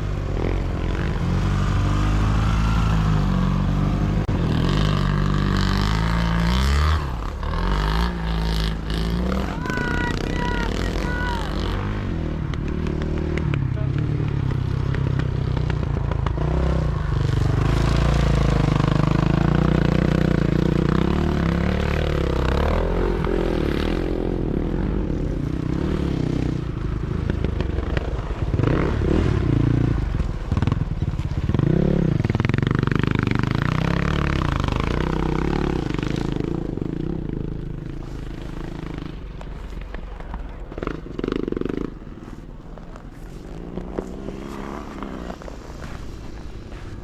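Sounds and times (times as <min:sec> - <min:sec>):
motorcycle engines revving: 0:00.0 - 0:47.0
motorcycles passing by: 0:00.0 - 0:47.0.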